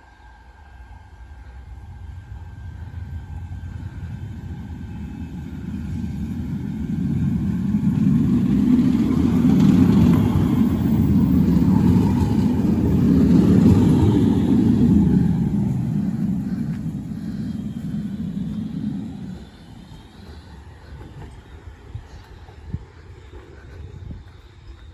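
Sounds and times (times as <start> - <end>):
tram passing with low rumble: 0.0 - 24.9.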